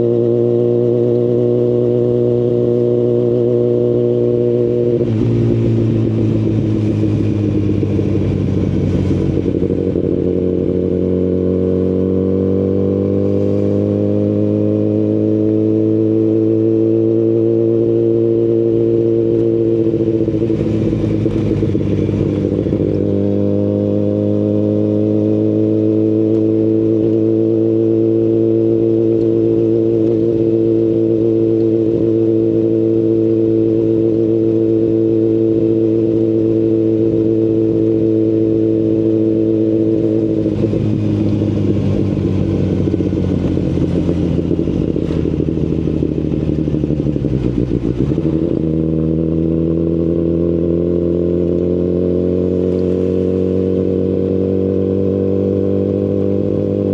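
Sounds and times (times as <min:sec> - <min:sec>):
motorcycle engine cruising: 0:00.0 - 0:56.9.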